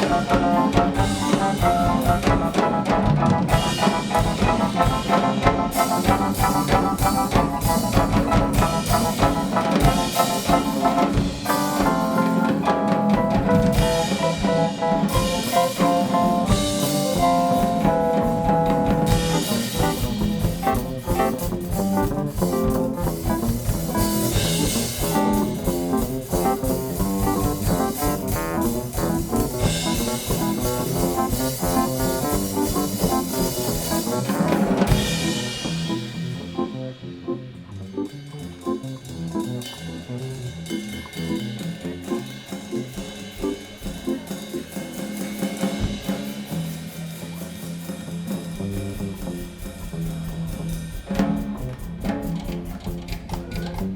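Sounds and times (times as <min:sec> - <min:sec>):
brass horns: 0:00.0 - 0:50.0
drum kit: 0:00.0 - 0:53.9.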